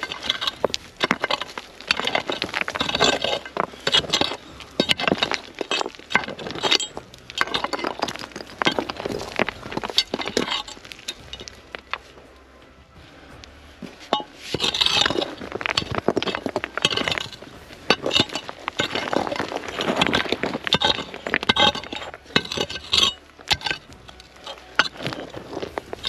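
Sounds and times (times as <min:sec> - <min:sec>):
metal clinking against rocks: 0:00.0 - 0:12.2, 0:13.8 - 0:26.0
metal tool scraping stony soil: 0:00.0 - 0:12.2, 0:13.8 - 0:26.0.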